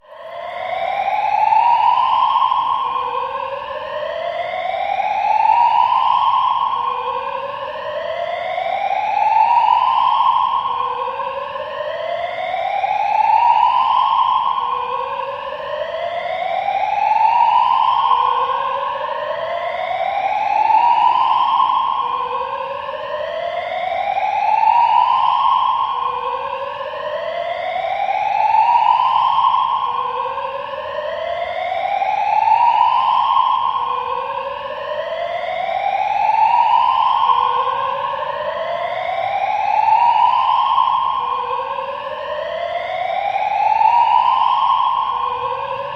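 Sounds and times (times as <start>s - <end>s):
fire alarm rising sweep tone: 0.1s - 45.9s.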